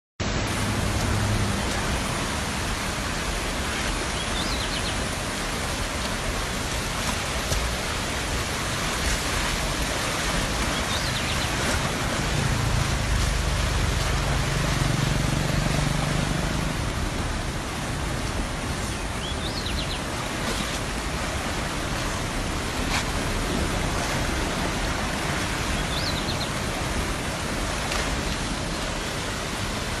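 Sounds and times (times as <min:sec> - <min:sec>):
rushing water: 0:00.2 - 0:30.0.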